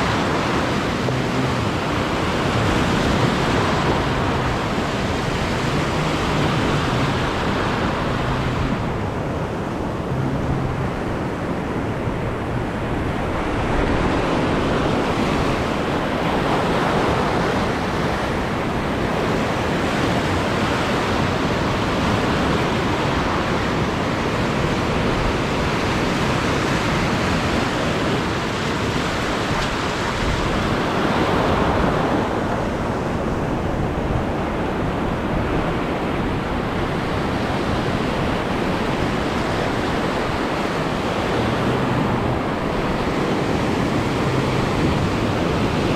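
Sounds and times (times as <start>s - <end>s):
sea waves washing over reef: 0.0s - 45.9s
wind rumble on microphone: 0.0s - 45.9s.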